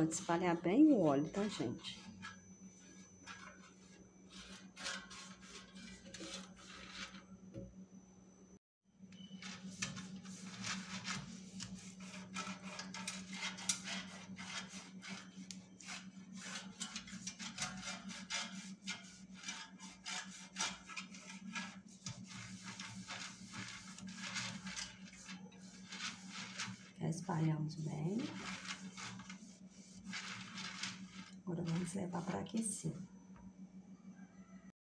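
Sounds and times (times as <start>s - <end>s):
pastry brush scraping and tapping: 0.0s - 7.2s, 9.2s - 32.8s.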